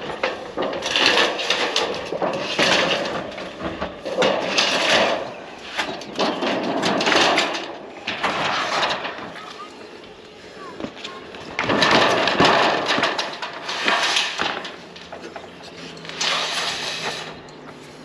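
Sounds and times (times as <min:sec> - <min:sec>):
sheet metal scraping and rattling: 0:00.0 - 0:18.0.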